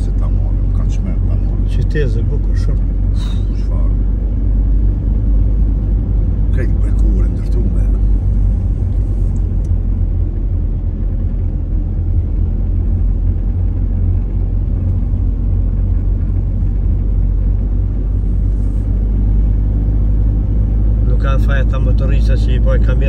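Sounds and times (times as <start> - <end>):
car interior road rumble: 0.0 - 23.0.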